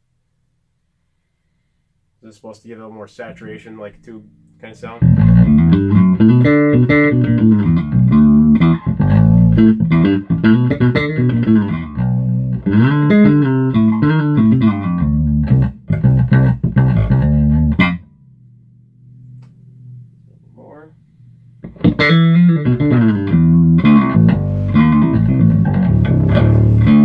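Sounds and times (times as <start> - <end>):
faint amp hum: 0.0 - 27.0
electric bass playing: 3.3 - 27.0.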